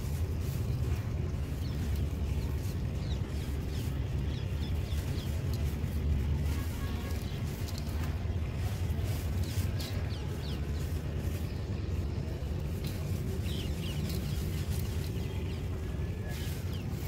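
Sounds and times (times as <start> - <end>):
grit trickling into soil: 0.0 - 17.0.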